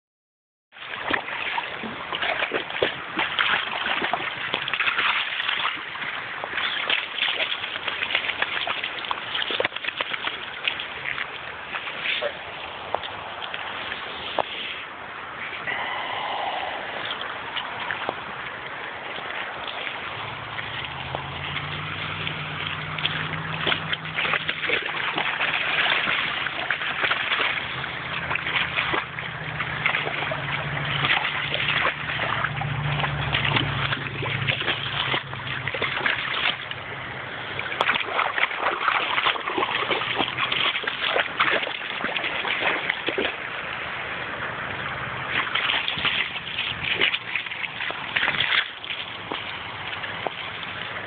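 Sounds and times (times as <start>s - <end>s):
dog splashing through water: 0.7s - 51.0s
running stream: 0.7s - 51.0s
low steady hum: 0.8s - 51.0s.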